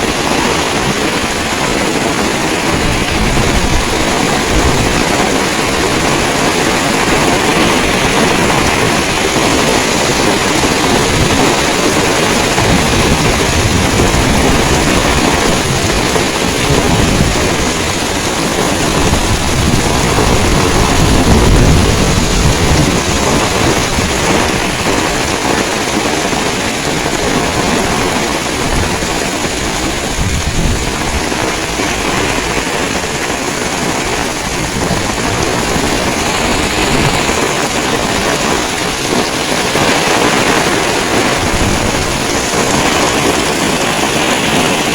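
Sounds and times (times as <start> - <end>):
heavy rain pouring: 0.0 - 44.9
wind buffeting microphone: 0.0 - 44.9.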